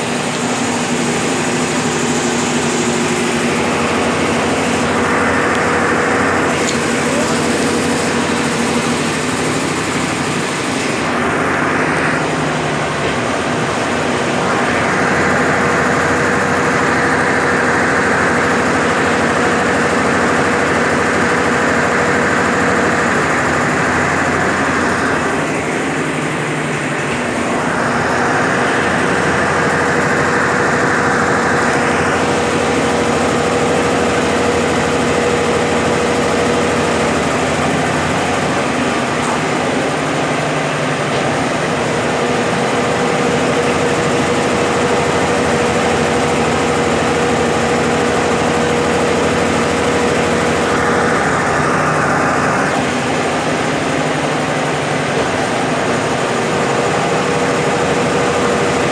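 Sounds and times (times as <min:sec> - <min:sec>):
washing machine spinning: 0:00.0 - 0:58.9.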